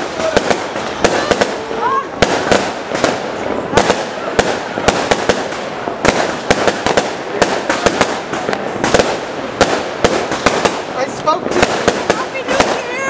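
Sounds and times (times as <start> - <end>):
distant fireworks din: 0.0 - 13.0
firecrackers banging: 0.0 - 13.0.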